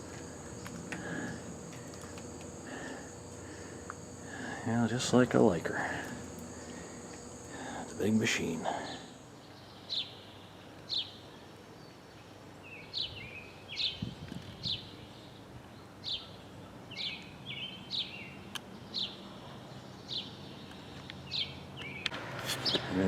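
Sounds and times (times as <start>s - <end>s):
songbird chirping: 0.0s - 22.9s.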